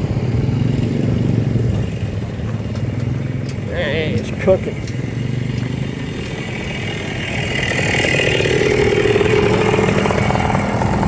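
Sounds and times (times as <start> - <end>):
small motorcycle engine buzzing: 0.0 - 11.0.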